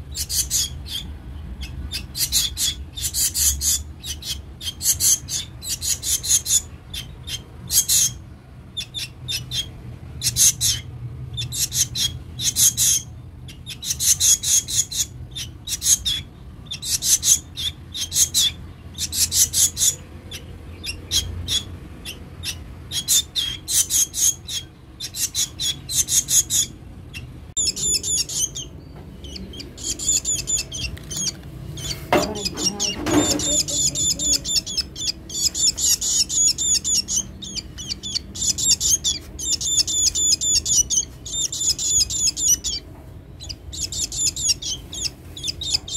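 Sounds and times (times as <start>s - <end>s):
bird begging calls: 0.0s - 45.9s.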